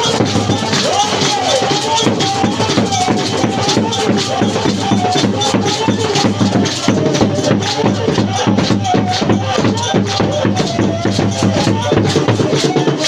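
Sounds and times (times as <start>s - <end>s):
loud music with quick beat: 0.0s - 13.0s.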